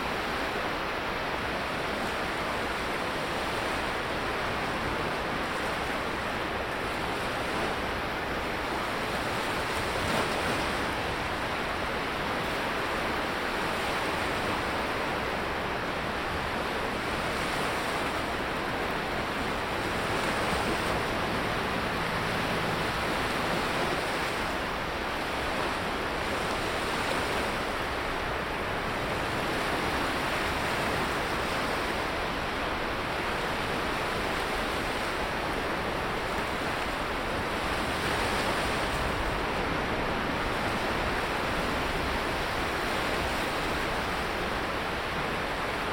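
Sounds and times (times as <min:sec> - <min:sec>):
sea waves breaking on beach: 0:00.0 - 0:45.9.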